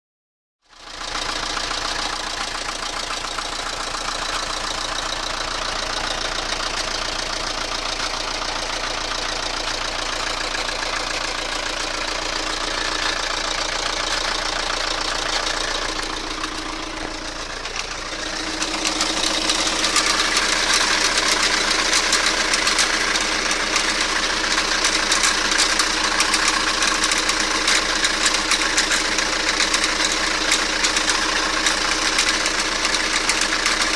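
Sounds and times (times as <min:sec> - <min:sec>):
car engine running: 0:00.7 - 0:33.9
metallic engine knocking: 0:01.1 - 0:33.9.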